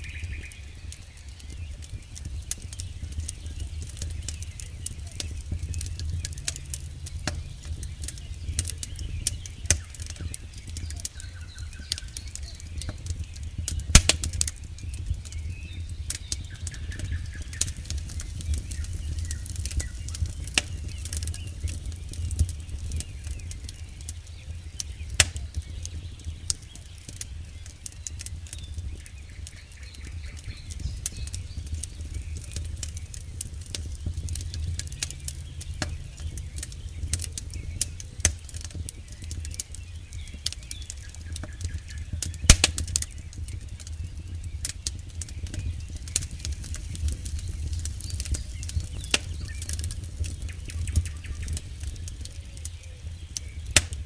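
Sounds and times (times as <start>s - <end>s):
low rumble of flames: 0.0s - 54.0s
wood crackling and popping: 0.0s - 54.0s.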